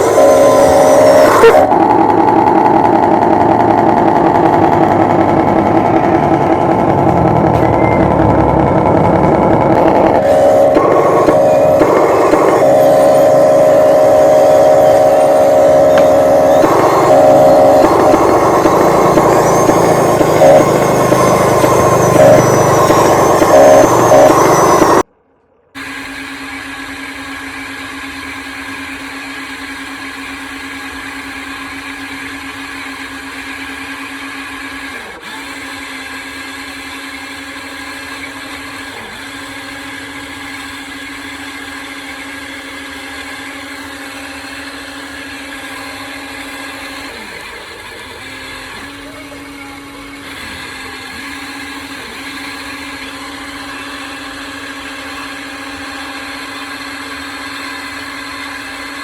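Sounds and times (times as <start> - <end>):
high electric motor whine: 0.0 - 25.1, 25.8 - 59.0.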